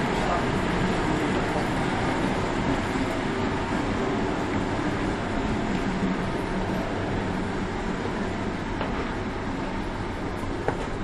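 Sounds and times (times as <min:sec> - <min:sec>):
machine rumble and hiss: 0:00.0 - 0:11.0.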